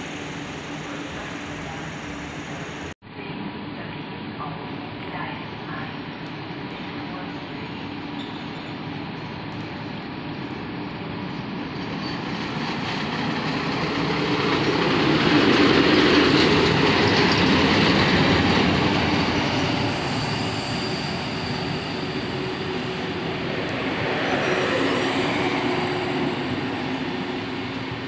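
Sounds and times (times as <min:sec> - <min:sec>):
electric locomotive passing: 0:00.0 - 0:02.9, 0:04.0 - 0:28.0.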